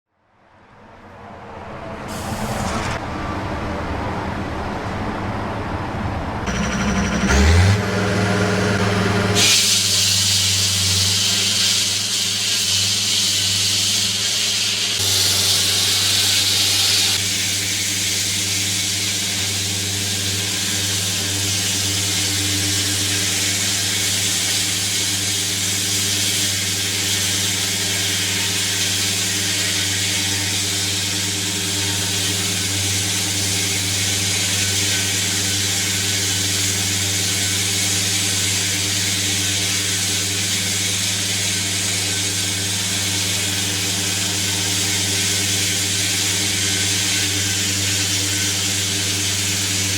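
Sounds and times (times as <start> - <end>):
saw engine humming: 6.4 - 49.9
saw blade grinding pavement: 6.5 - 49.9.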